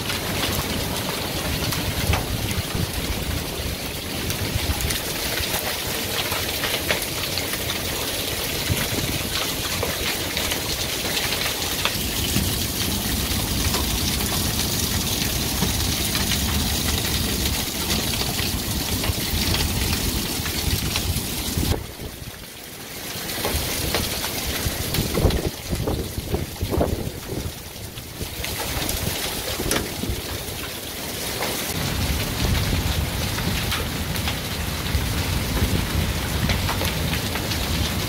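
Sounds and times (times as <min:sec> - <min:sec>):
wind rumbling on microphone: 0:00.0 - 0:05.6, 0:08.3 - 0:10.9, 0:11.9 - 0:22.4, 0:23.4 - 0:30.6, 0:31.7 - 0:38.0
heavy rain and hail pattering: 0:00.0 - 0:38.0.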